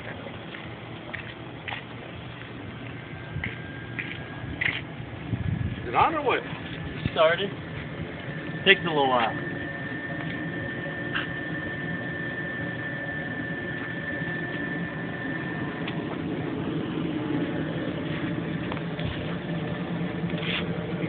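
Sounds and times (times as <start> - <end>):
gas turbine engine whirring: 0.0 - 21.0
thin high whine: 2.0 - 21.0.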